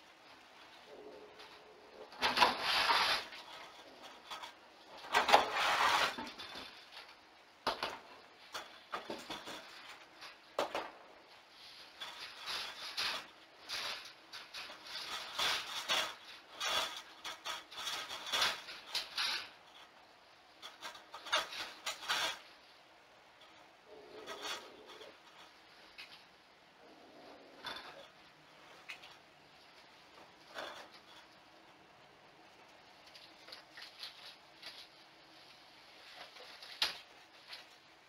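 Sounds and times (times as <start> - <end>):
scratching and rubbing: 0.0 - 38.0.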